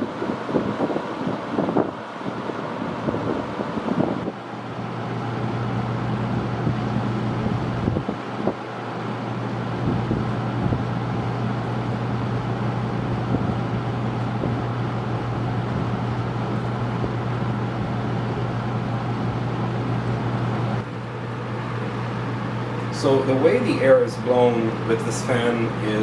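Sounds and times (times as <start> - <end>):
fan air rushing: 0.0 - 26.0
low motor hum: 0.0 - 26.0.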